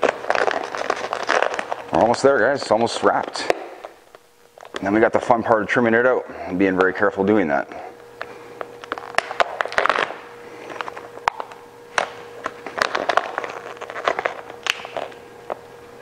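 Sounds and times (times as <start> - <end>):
vinyl film crackling: 0.0 - 5.4, 8.0 - 15.7
faint steady hum: 0.0 - 16.0.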